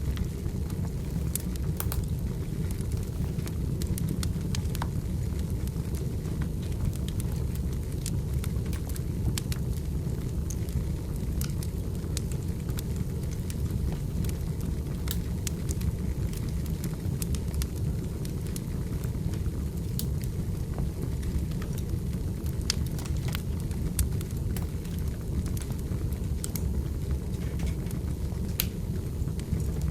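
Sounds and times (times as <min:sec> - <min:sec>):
firewood crackles and pops: 0:00.0 - 0:29.9
wood fire rumbling: 0:00.0 - 0:29.9.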